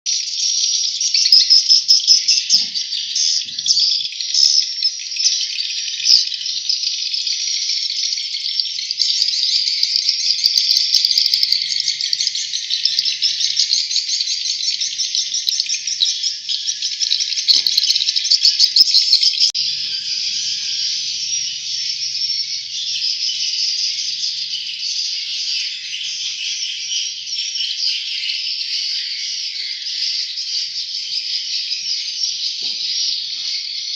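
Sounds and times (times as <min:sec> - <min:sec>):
chicks chirping: 0:00.1 - 0:33.9.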